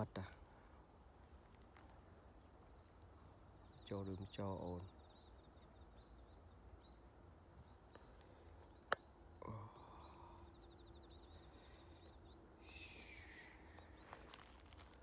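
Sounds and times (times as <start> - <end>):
faint high wildlife chirps: 0.0 - 15.0.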